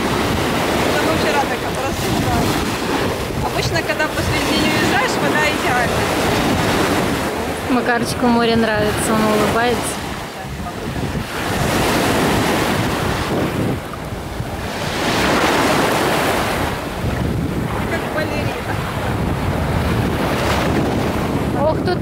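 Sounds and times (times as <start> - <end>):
sea waves breaking on sand: 0.0 - 22.0
wind buffeting microphone: 0.0 - 22.0.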